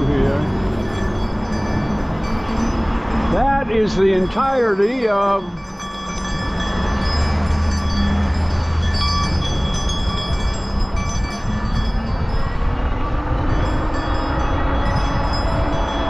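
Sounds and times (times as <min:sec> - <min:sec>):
low vehicle engine rumble: 0:00.0 - 0:16.0
thin high tones: 0:00.0 - 0:16.0
traffic noise: 0:00.0 - 0:16.0
wind noise: 0:00.0 - 0:16.0.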